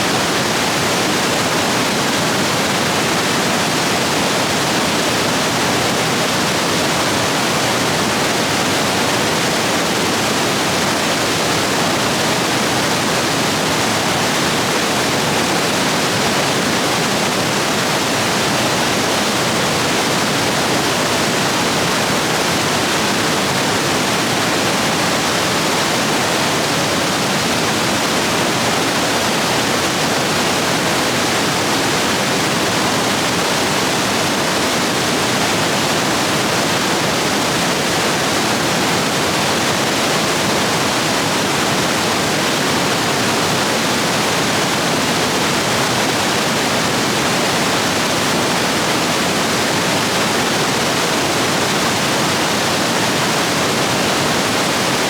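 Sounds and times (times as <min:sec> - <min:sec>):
rapids rushing water: 0:00.0 - 0:55.0.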